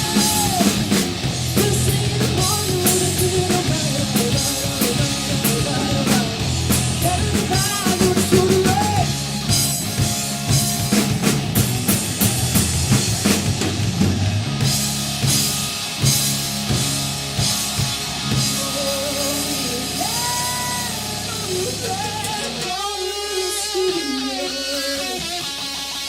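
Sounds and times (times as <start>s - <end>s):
drums: 0.0s - 26.0s
electric guitar bending notes: 0.0s - 26.0s.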